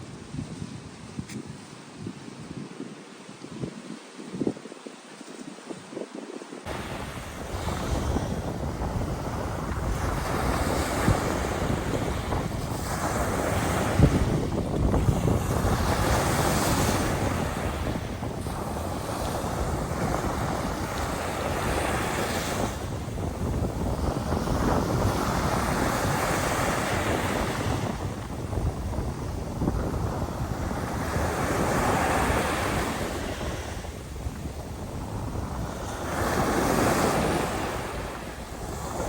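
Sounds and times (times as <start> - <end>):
sea waves washing ashore: 0.0 - 39.0
wind rumbling on microphone: 0.0 - 39.0.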